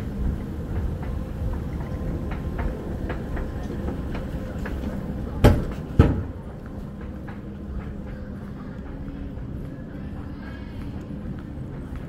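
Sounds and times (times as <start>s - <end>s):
moving walkway rumbling and clicking: 0.0s - 12.0s.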